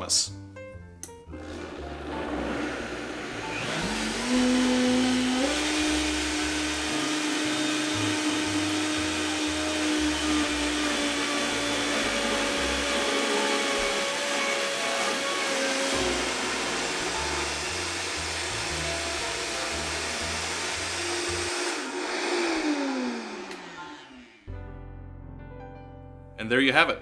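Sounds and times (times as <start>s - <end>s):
blender whining: 1.3s - 24.5s.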